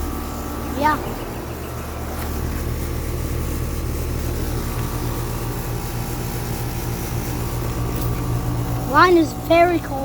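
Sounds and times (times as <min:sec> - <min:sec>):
air conditioner compressor hum: 0:00.0 - 0:10.0
condenser fan blowing air: 0:00.0 - 0:10.0.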